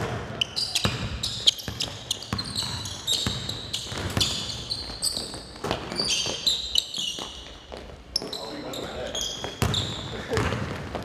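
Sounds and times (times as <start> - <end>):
basketballs bouncing on wooden floor: 0.0 - 8.0, 9.2 - 11.0
sneakers squeaking on court: 0.0 - 11.0.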